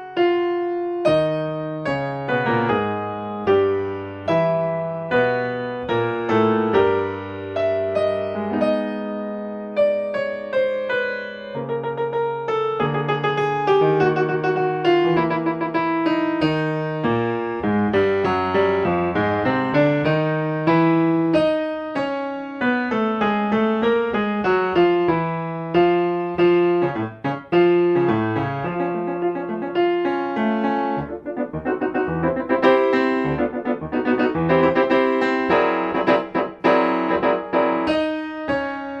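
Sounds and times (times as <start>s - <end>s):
solo piano music: 0.0s - 39.0s.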